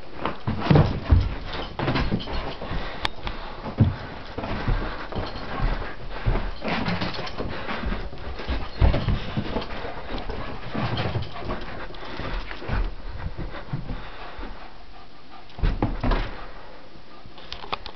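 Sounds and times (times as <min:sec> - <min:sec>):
heavy thumps: 0:00.2 - 0:14.6, 0:15.6 - 0:16.4
dog panting: 0:00.4 - 0:17.8.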